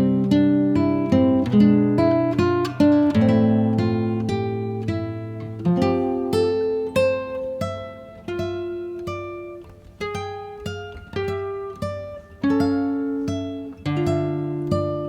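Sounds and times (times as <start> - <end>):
acoustic guitar plucked melody: 0.0 - 15.0.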